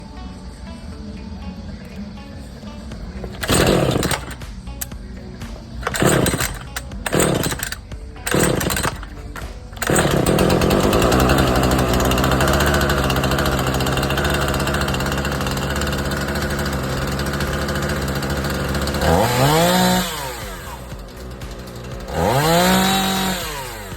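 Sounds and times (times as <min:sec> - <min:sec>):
chainsaw revving: 0:02.8 - 0:23.9.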